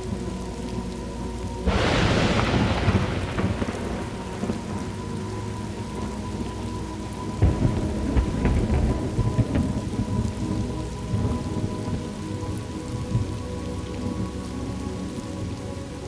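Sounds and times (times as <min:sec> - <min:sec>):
rain falling steadily: 0:00.0 - 0:16.0
thunder rumbling: 0:01.5 - 0:15.7.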